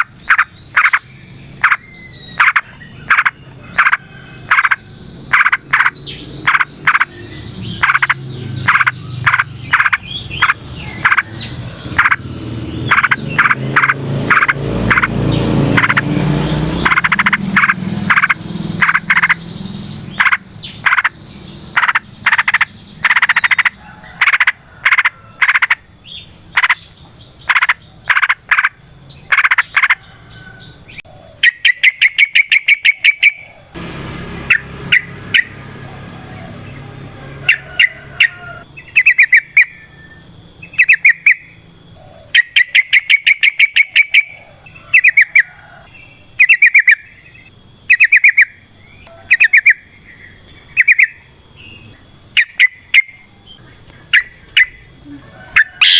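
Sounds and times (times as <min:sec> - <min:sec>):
bulbul chattering and trilling: 0:00.0 - 0:30.2, 0:31.3 - 0:55.9.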